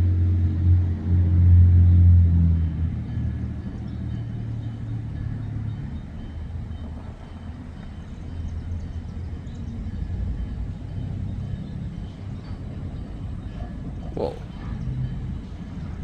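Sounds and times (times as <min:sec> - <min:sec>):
train cars rumbling on rails: 0:00.1 - 0:16.0.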